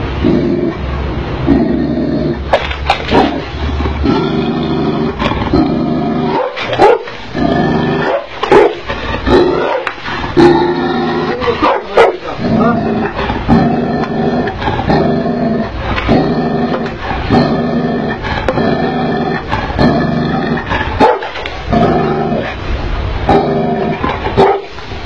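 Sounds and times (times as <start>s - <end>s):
dog barking deeply: 2.4s - 22.5s, 23.2s - 24.8s.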